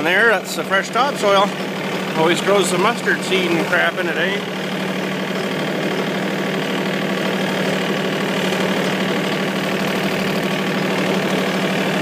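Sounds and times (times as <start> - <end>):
small vehicle engine humming: 0.0 - 12.0.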